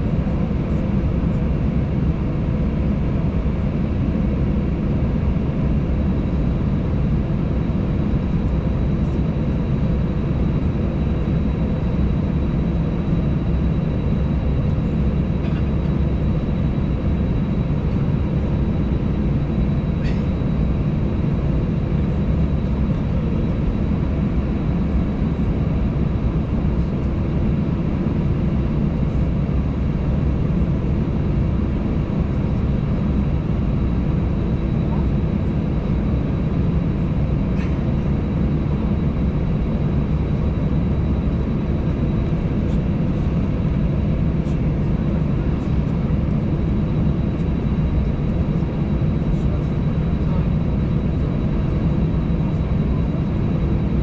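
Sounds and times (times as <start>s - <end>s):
thin steady whines: 0.1s - 54.0s
aircraft engines idling: 6.1s - 54.0s
cabin air running: 9.9s - 54.0s.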